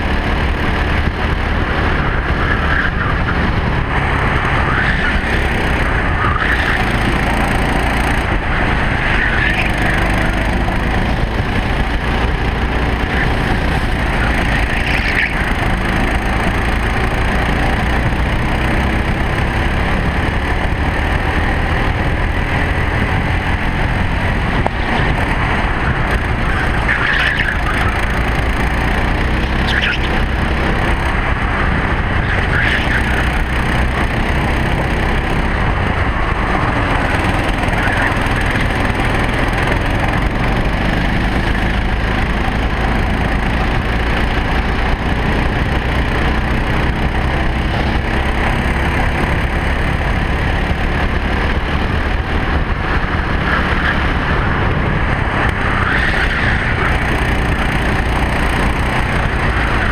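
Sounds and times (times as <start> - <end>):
kart engine revving: 0.0 - 59.9
rush of wind noise: 0.0 - 59.9.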